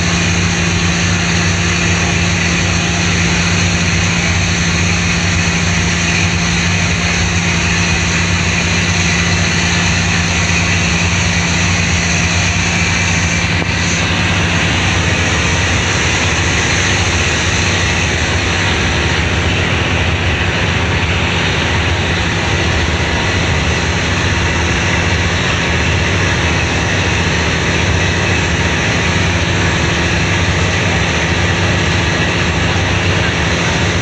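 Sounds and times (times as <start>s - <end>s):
diesel engines droning: 0.0s - 34.0s
steady rushing noise: 0.0s - 34.0s.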